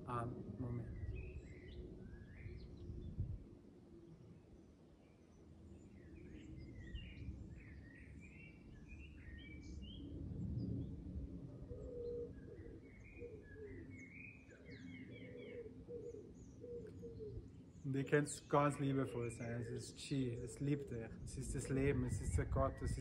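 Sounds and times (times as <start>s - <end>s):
small birds chirping: 0.0s - 11.0s, 11.8s - 23.0s
faint low outdoor rumble: 0.0s - 23.0s.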